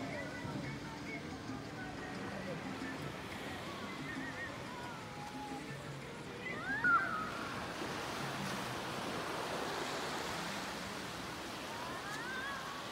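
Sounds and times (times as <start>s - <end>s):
surf washing on beach: 1.8s - 12.9s.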